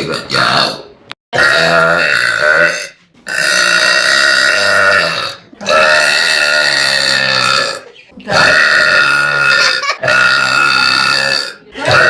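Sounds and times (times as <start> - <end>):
girl burping loudly: 1.4 - 12.0.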